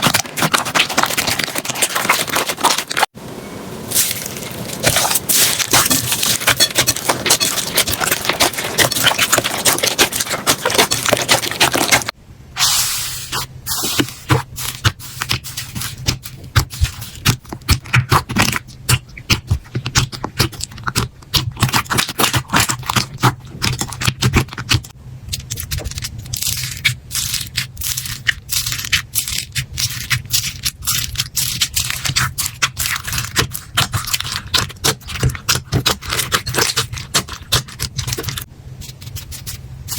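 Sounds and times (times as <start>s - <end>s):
slime crackling: 0.0s - 3.1s, 3.9s - 12.2s, 13.3s - 39.9s.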